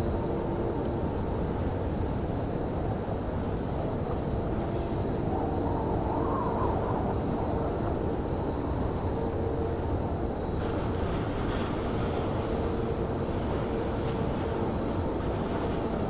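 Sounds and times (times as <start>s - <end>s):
rail yard rumble: 0.0s - 16.0s.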